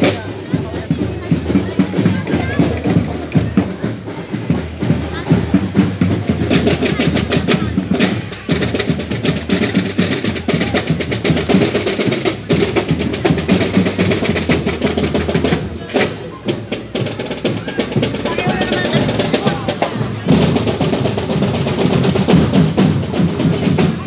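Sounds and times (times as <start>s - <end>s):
bass drum: 0.0s - 24.0s
snare drums: 0.0s - 24.0s.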